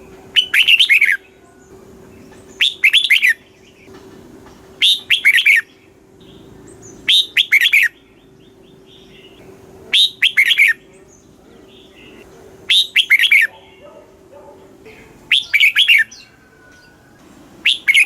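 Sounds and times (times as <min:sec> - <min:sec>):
bird singing whistled notes: 0:00.0 - 0:03.9, 0:04.8 - 0:13.8, 0:14.9 - 0:18.0.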